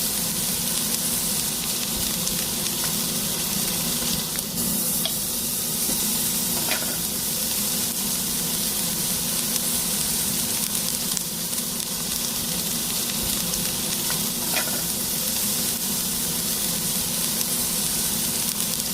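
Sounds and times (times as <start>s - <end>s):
pancake sizzling in oil: 0.0s - 18.9s.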